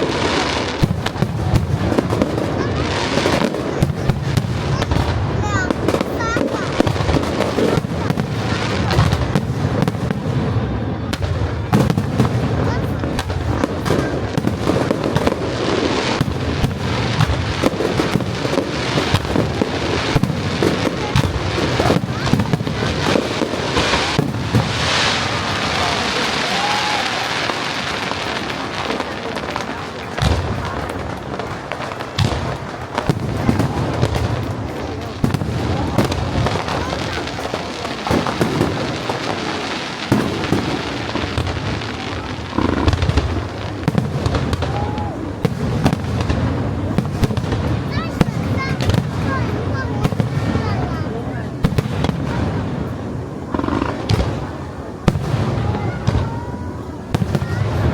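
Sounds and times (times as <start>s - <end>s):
firework shells bursting: 0.0s - 56.5s
crackling firework hiss: 0.0s - 57.9s.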